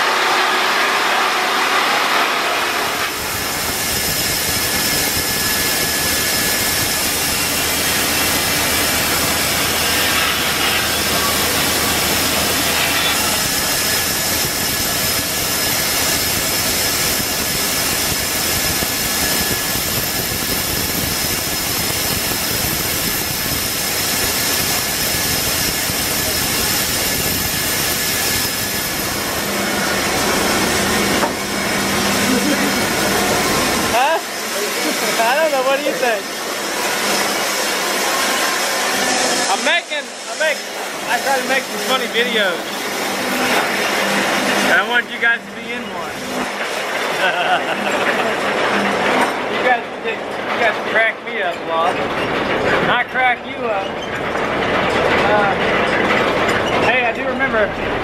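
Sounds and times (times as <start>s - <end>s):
high whine: 0.0s - 49.6s
sawmill cutting a log: 0.0s - 58.0s.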